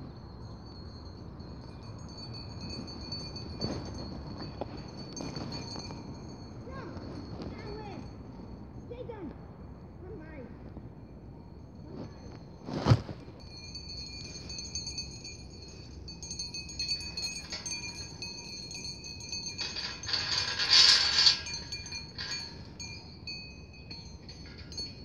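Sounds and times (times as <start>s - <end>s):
sheep bells jingling: 0.2s - 9.0s, 13.3s - 25.0s.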